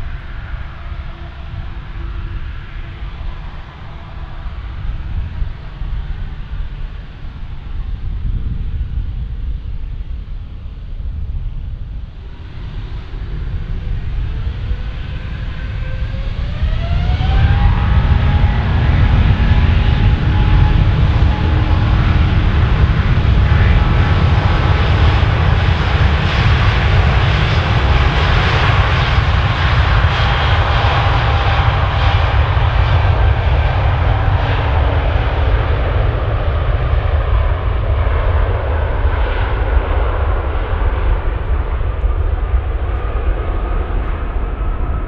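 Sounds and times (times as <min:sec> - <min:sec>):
jet engines at takeoff: 0:00.0 - 0:45.0.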